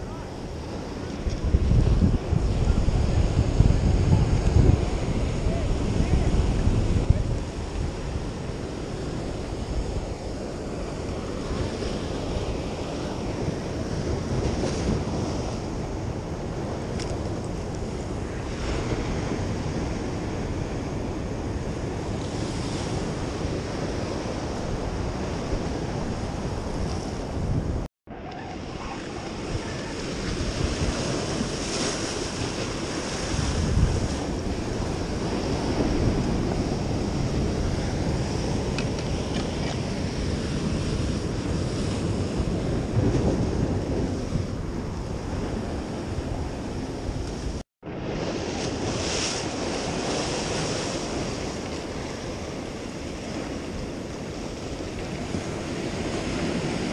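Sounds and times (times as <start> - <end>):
ocean surf washing against rocks: 0.0 - 56.9
wind buffeting microphone: 0.0 - 56.9.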